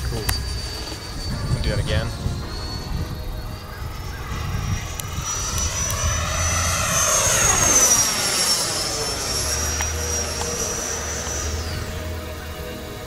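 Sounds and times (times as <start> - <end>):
electric ducted fan whining: 0.0 - 13.0.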